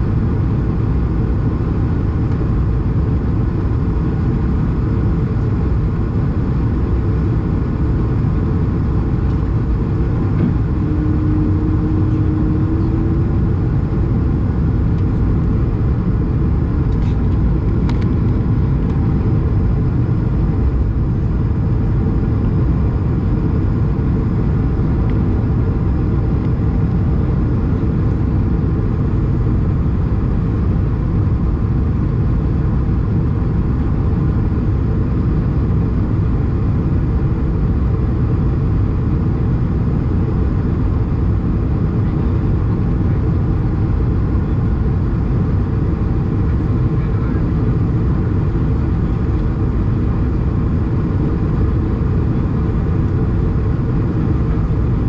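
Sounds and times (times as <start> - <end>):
jet engine hum: 0.0 - 55.0
airplane cabin air rush: 4.1 - 41.1, 41.7 - 55.0.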